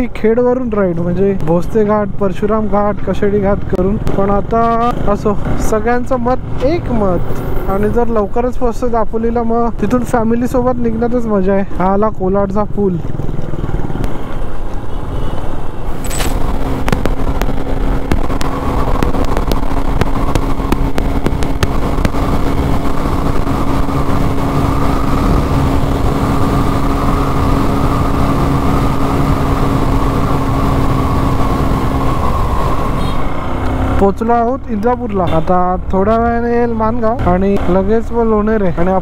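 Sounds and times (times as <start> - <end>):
motorcycle cruising: 0.0 - 39.0
road noise: 0.0 - 39.0.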